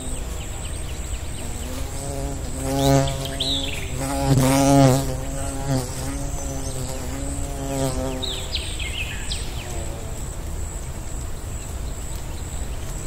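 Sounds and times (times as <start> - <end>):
flying insect buzzing: 0.0 - 10.8
outdoor background noise: 0.0 - 13.0.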